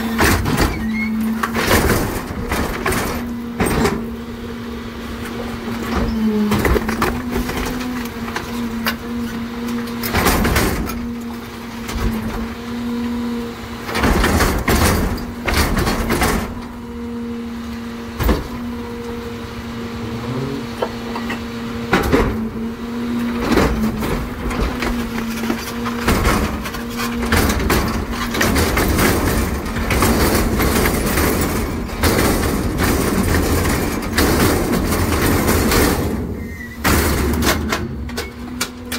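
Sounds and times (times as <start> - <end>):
garbage truck engine and hydraulics hum: 0.0 - 38.9
trash banging and crunching: 0.0 - 38.9.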